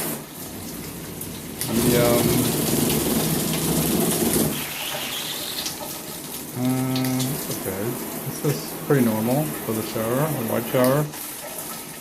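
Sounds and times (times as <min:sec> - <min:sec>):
water spraying from shower head: 0:00.0 - 0:12.0.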